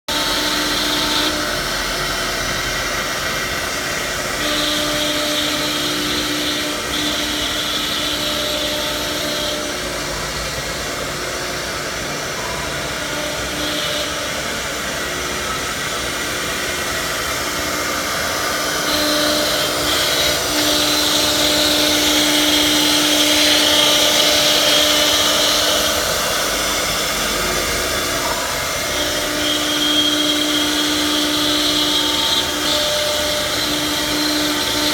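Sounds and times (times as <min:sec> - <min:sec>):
wood router spindle whine: 0:00.1 - 0:34.9.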